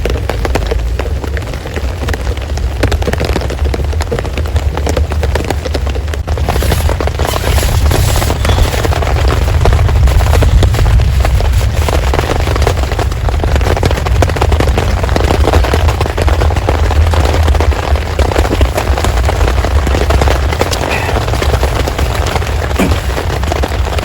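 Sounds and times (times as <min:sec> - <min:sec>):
deep rumble: 0:00.0 - 0:24.0
heavy rain pelting: 0:00.0 - 0:24.0.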